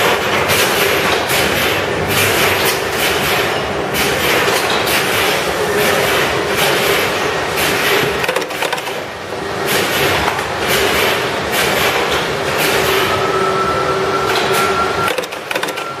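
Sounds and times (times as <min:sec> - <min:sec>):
workshop machinery running: 0:00.0 - 0:16.0.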